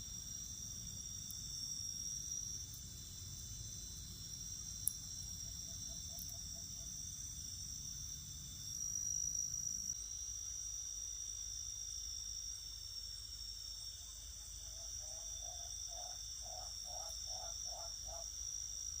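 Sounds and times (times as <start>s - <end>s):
crickets and insects trilling: 0.0s - 19.0s.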